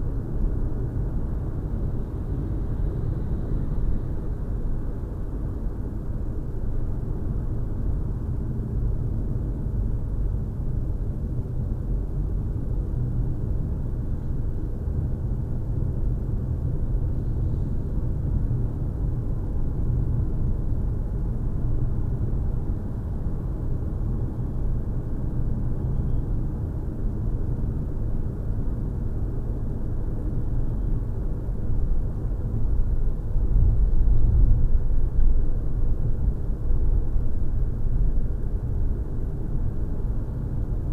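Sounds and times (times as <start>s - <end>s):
low engine rumble: 0.0s - 40.9s.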